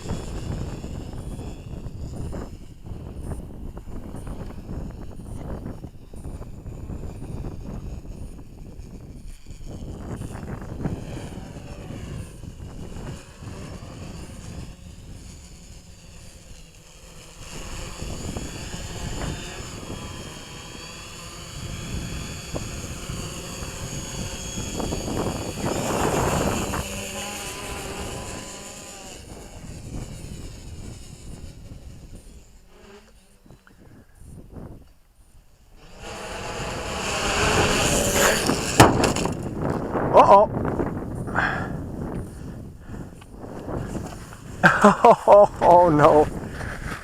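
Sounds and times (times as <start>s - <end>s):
drone motors whining: 0.0s - 47.0s
wind noise on microphone: 0.0s - 47.0s.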